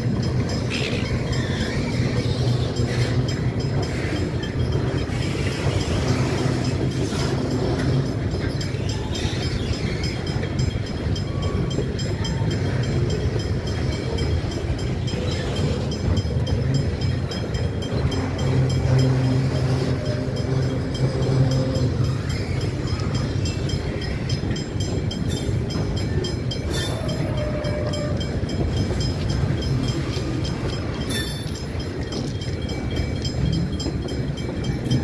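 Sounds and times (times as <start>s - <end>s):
train wheels rumbling and clicking: 0.0s - 35.0s.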